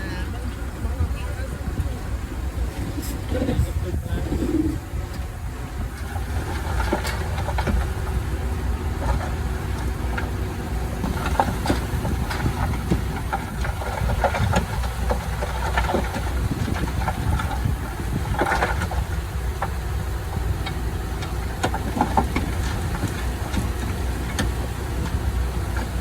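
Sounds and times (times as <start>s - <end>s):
heavy machinery engine running: 0.0s - 26.0s
clanks and knocks: 5.1s - 26.0s.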